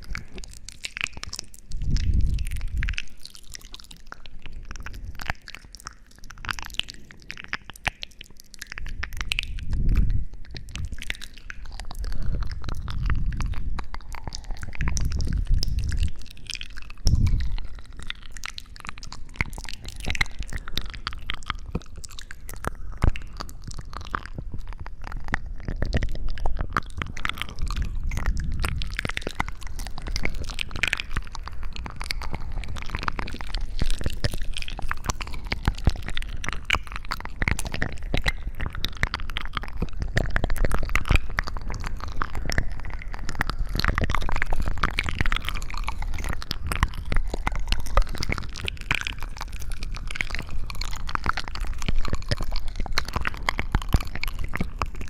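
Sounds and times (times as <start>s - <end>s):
crackling and clicking: 0.0s - 55.0s.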